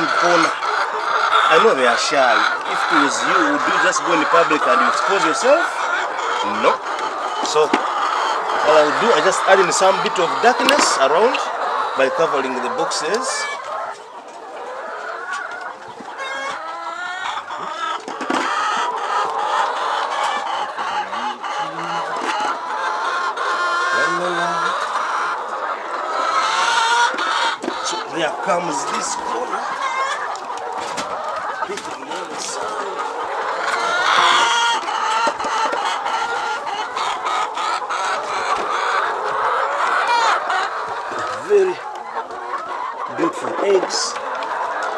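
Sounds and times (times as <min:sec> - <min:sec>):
hens clucking: 0:00.0 - 0:44.9.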